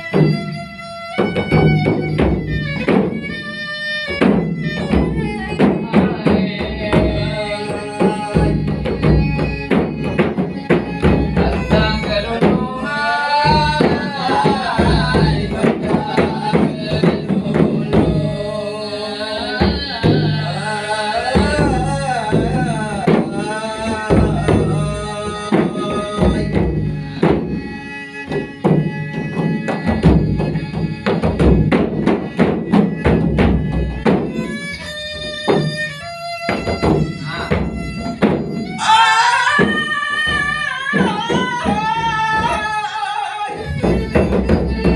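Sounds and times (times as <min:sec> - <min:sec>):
hand drums: 0:00.0 - 0:44.9.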